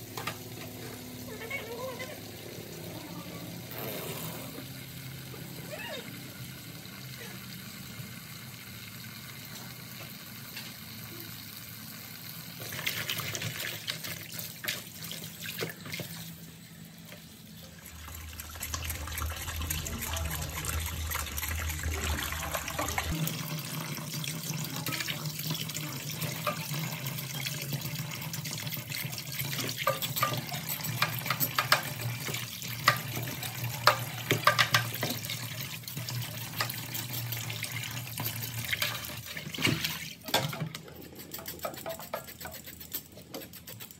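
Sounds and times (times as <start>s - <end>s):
tap water running into basin: 0.0s - 43.9s.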